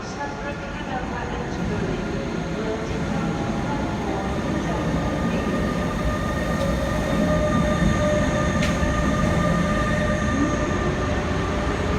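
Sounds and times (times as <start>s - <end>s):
train rumble: 0.0s - 11.9s.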